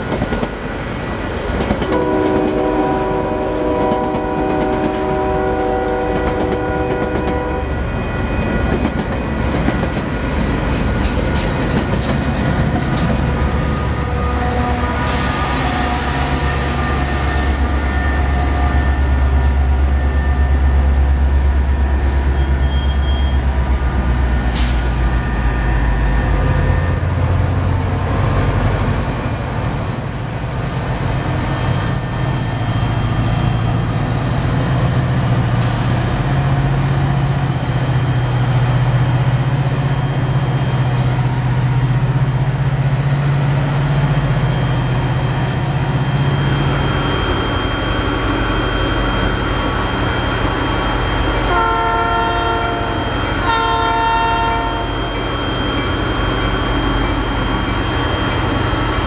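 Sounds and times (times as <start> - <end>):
train cars rolling on rails: 0.0 - 59.0.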